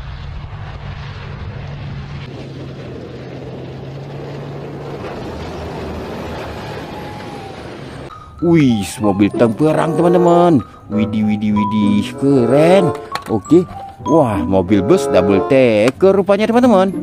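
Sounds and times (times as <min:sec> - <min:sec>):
tank engine and tracks rumbling: 0:00.0 - 0:17.0.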